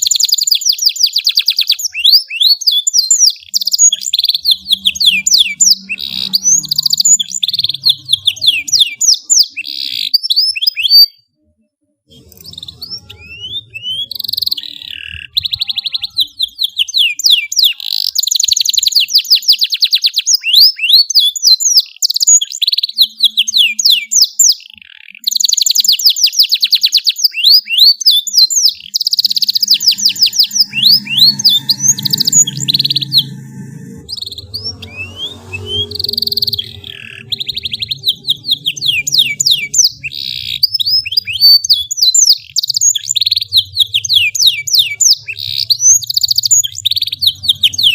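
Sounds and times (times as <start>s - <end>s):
canary singing trills: 0.0s - 11.5s, 12.1s - 47.9s.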